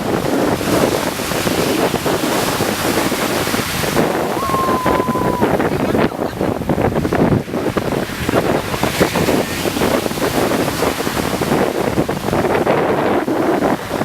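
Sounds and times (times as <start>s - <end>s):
ocean water washing: 0.0s - 14.0s
wind buffeting microphone: 0.0s - 14.0s.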